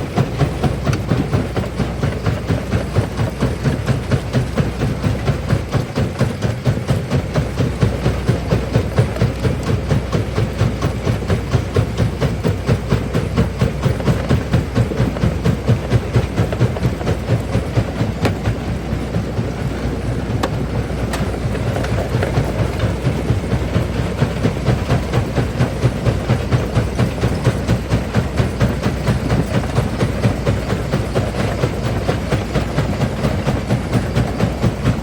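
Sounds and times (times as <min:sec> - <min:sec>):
jaw crusher pulsing: 0:00.0 - 0:35.0.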